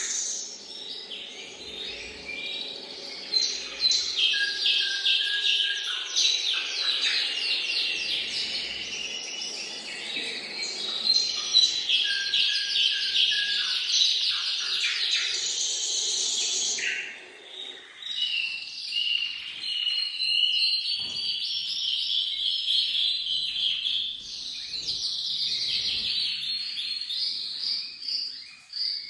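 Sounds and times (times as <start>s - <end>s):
canary singing trills: 0.0s - 29.0s.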